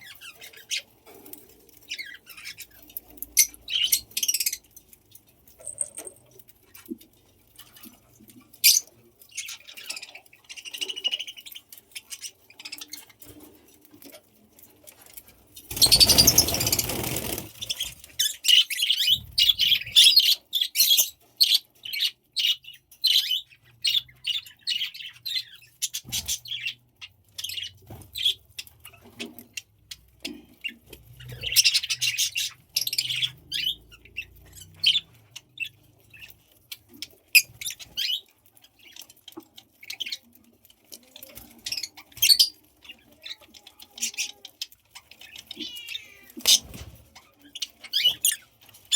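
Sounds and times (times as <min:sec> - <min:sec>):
budgies chirping: 0:00.0 - 0:48.9.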